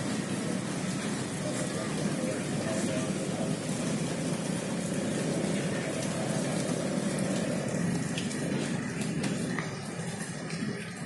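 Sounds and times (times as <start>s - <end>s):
running water on concrete: 0.0s - 11.0s.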